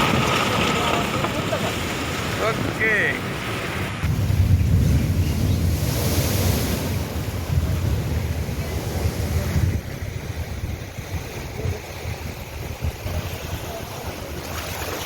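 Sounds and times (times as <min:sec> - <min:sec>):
rough sea surf: 0:00.0 - 0:15.0
wind buffeting microphone: 0:00.0 - 0:15.0.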